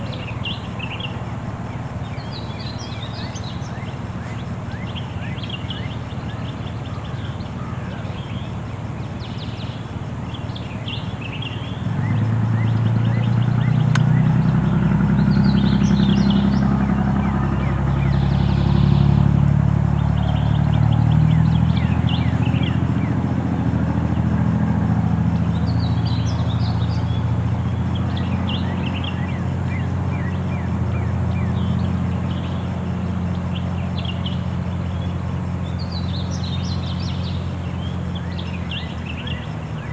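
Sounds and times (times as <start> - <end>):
birds chirping: 0.0 - 39.9
vehicle engine running: 0.0 - 39.9.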